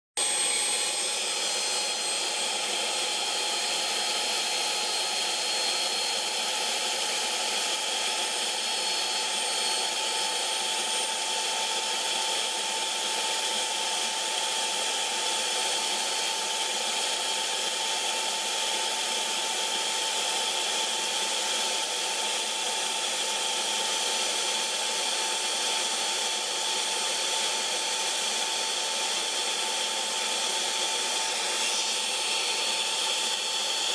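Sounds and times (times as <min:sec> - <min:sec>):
air compressor running: 0:00.2 - 0:33.9.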